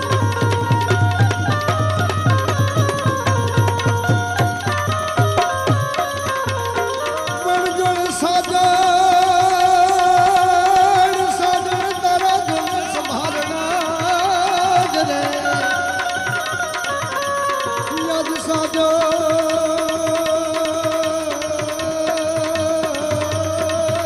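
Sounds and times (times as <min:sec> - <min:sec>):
melodic instrument holding long notes: 0:00.0 - 0:24.0
tabla playing steady rhythm: 0:00.0 - 0:24.0.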